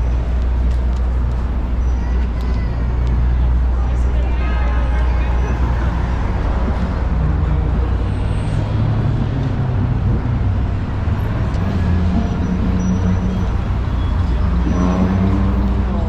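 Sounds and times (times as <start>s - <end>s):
general city noise: 0.0s - 16.0s
traffic engine rumble: 0.0s - 16.0s.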